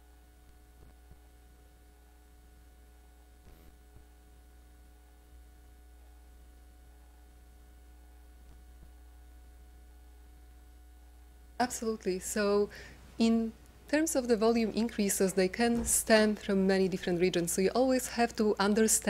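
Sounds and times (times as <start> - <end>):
faint low electrical hum: 0.0 - 19.0.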